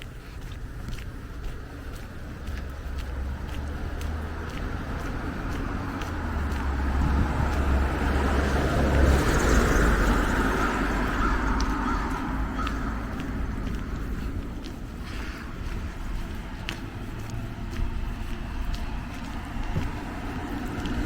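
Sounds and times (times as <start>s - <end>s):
car passing: 0.7s - 21.0s.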